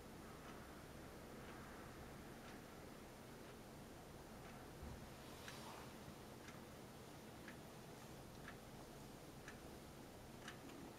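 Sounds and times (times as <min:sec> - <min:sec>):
faint ticking: 0:00.0 - 0:10.9.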